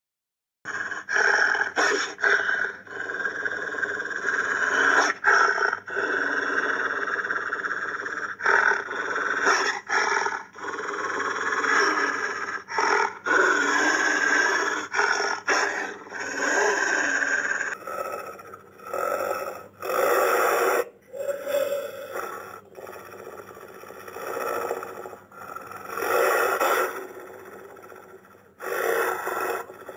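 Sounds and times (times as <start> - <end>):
wolf growls and snarls: 0.7 - 29.9.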